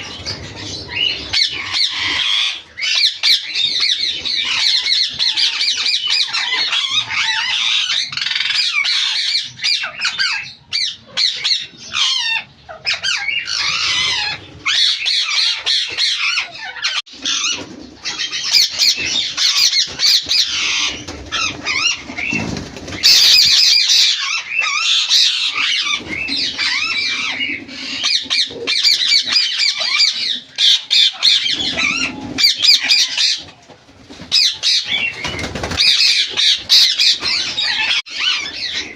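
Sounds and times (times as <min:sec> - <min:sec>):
parakeets screeching and chattering: 0:00.0 - 0:38.9.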